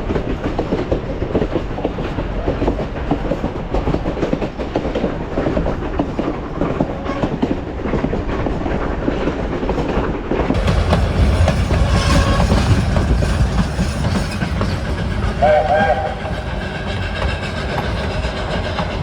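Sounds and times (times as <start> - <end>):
train rumbling: 0.0 - 19.0
wheels clacking over rails: 0.1 - 19.0.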